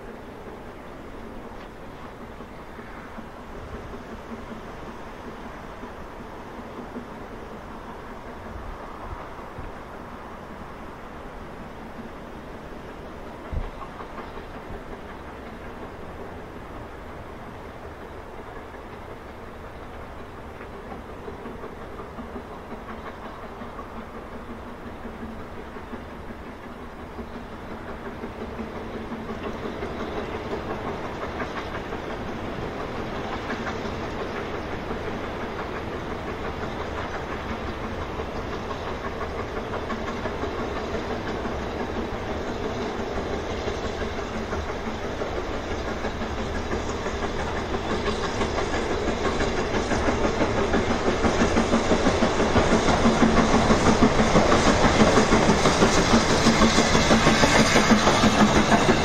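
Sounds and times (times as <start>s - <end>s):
steam locomotive exhaust beats: 0.0s - 59.0s
train running gear on rails: 0.0s - 59.0s.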